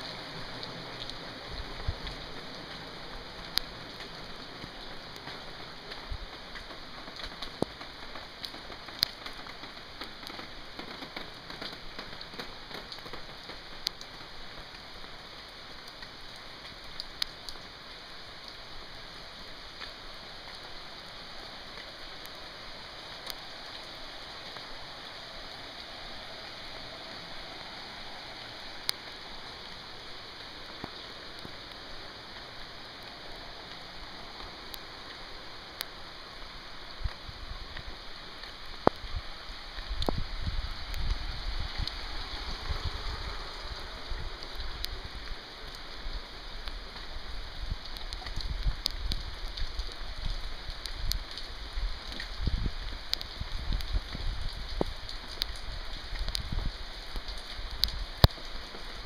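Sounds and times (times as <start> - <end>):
rain on wet street: 0.0 - 59.0.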